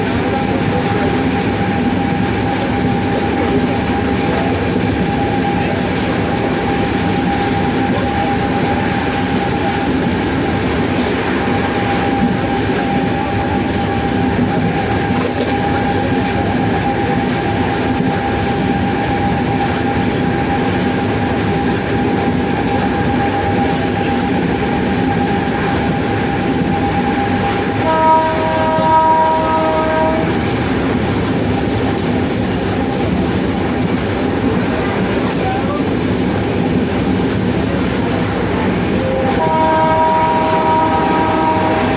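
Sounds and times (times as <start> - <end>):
locomotive motor whine: 0.0 - 41.9
moving train rumble: 0.0 - 41.9
train horn: 0.4 - 31.7, 38.8 - 41.9.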